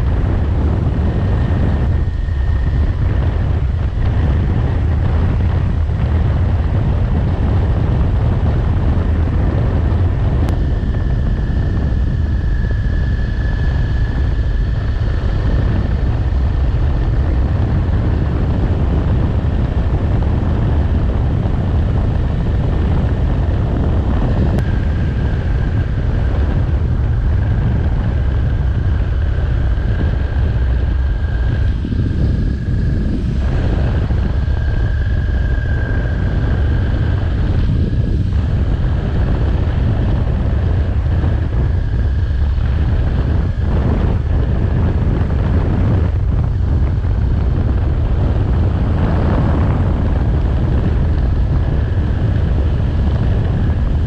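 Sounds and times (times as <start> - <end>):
motorcycle engine cruising: 0.0 - 54.0
thin high whine: 0.0 - 54.0
wind rushing over microphone: 0.0 - 54.0.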